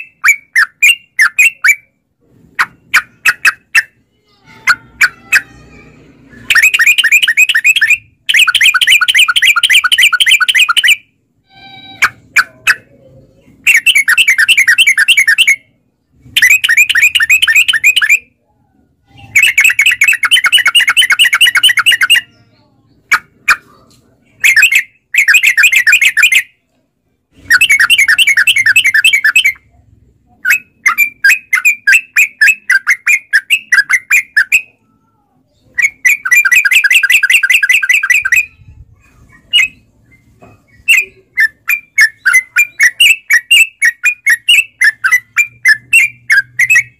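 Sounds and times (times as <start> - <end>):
bulbul chattering song: 0.0 - 26.6, 27.3 - 46.9.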